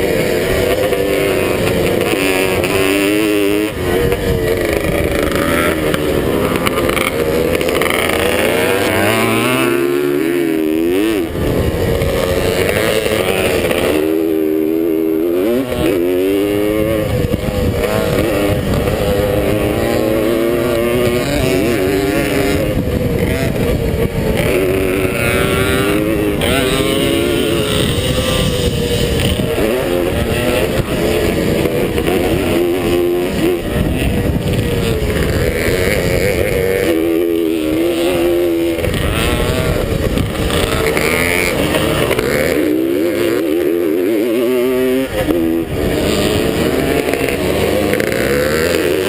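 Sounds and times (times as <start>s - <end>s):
camera microphone noise: 0.0s - 49.0s
motorcycle engine revving: 0.0s - 49.0s.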